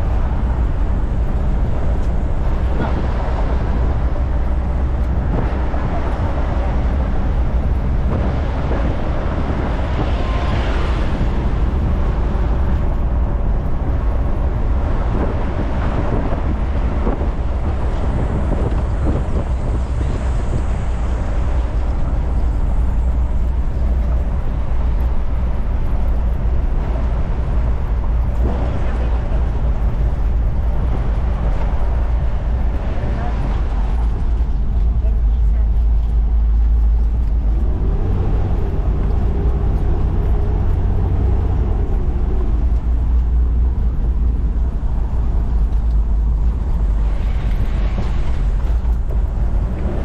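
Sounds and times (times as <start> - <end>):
engine and road noise rumble: 0.0 - 50.0.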